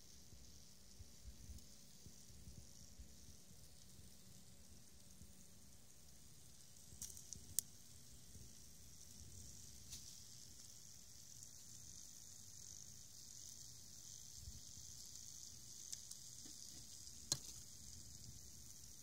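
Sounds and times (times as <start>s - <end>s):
bacon sizzling: 0.0s - 19.0s
sharp crackles: 0.1s - 19.0s.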